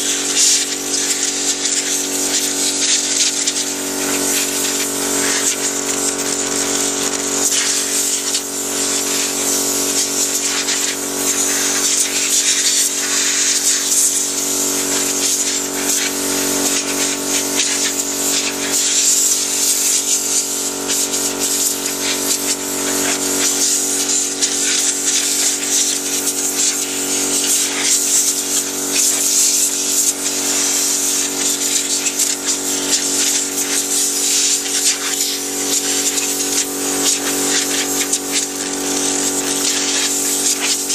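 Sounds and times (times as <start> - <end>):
air compressor humming: 0.0 - 40.9
compressed air hissing: 0.0 - 40.9.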